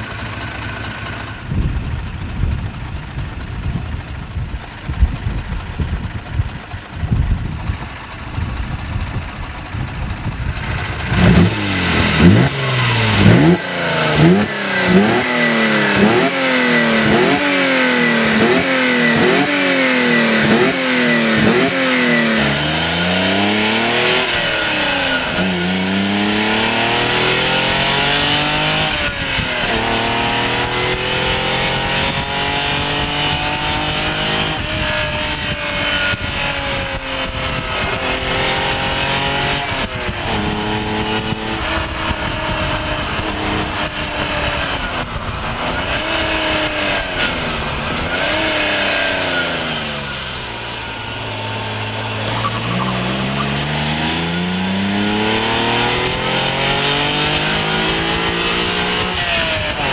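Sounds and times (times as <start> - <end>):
car engine accelerating through gears: 10.6 - 59.9.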